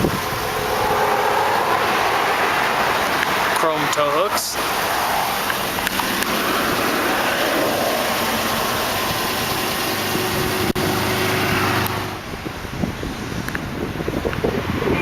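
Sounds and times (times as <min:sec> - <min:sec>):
highway traffic roar: 0:00.0 - 0:15.0
vehicle engine humming: 0:00.0 - 0:15.0.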